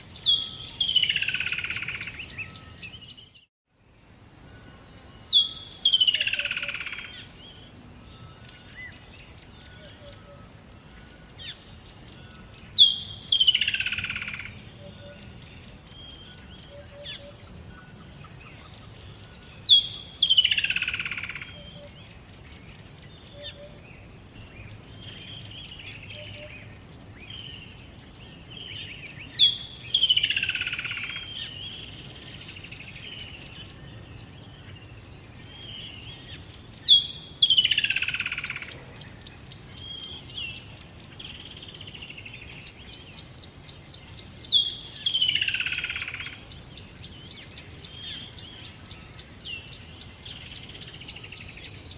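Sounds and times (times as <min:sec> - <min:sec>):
bird song with falling trill: 0:00.0 - 0:51.9
soft bird chirps: 0:00.0 - 0:51.9.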